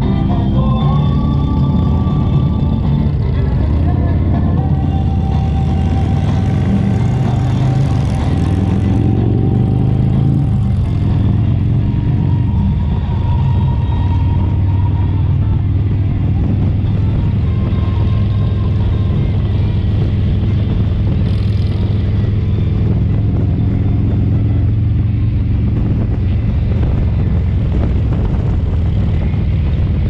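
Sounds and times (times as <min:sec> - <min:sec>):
motorcycle engine rumble: 0:00.0 - 0:30.0.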